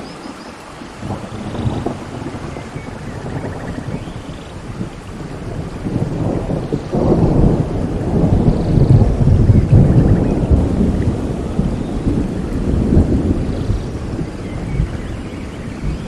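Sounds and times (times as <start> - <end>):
rain falling: 0.0 - 16.0
rolling thunder: 0.8 - 16.0.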